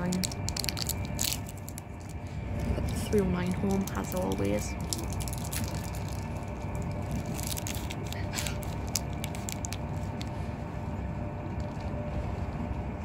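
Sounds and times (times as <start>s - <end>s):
faint clicks and crackles: 0.0s - 10.4s
train rumbling at speed: 0.0s - 13.0s.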